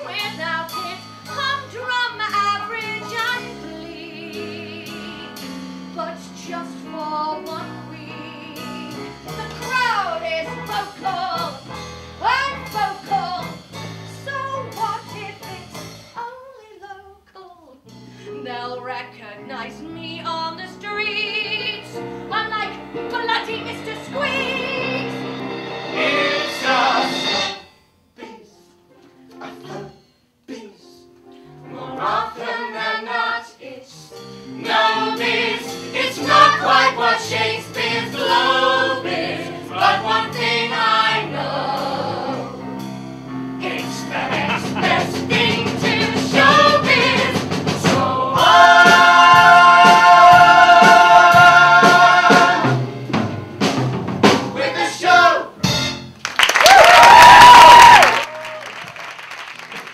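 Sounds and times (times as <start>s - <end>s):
musical accompaniment: 0.0s - 16.2s, 17.8s - 59.9s.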